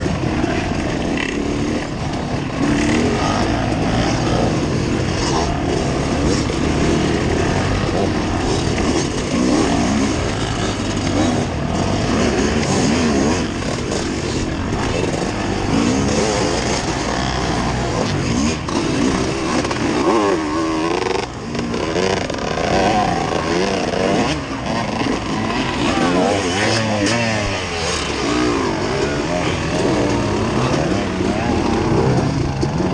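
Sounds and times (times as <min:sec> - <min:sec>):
off-road vehicle engine revving: 0:00.0 - 0:32.9.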